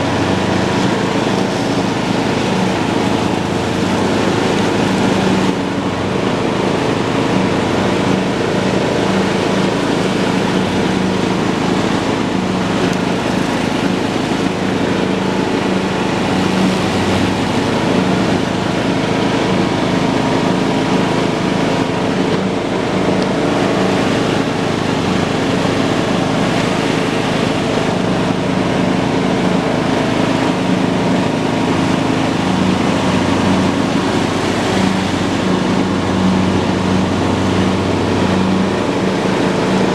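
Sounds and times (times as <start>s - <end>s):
lawn tractor engine mowing: 0.0s - 39.9s.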